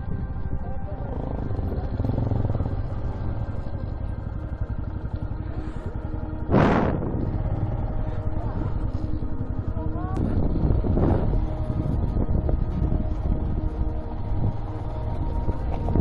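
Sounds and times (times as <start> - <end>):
motorcycle engine running: 0.0 - 16.0
loud rush of noise: 1.9 - 16.0.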